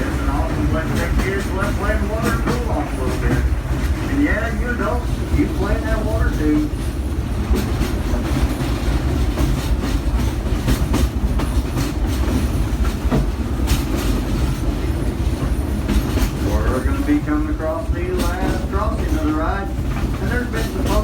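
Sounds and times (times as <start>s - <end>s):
train car rolling on track: 0.0s - 21.0s
wheels clanking over rail joints: 0.0s - 21.0s.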